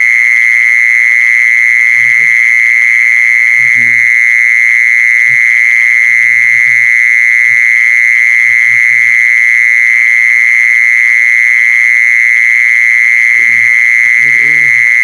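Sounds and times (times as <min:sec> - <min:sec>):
insect high-pitched trill: 0:00.1 - 0:15.0.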